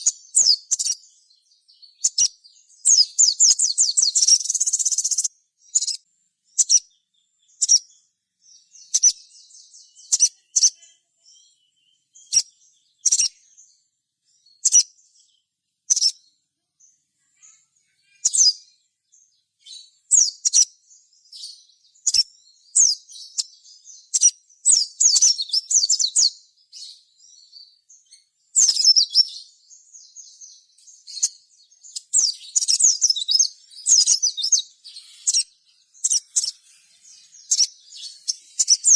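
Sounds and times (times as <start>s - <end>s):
bird high-pitched chirps: 0.0s - 38.9s.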